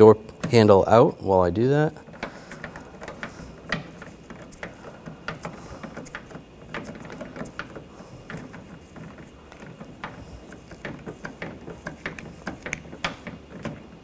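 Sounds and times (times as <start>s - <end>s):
hand ratchet clicking: 2.0s - 13.9s.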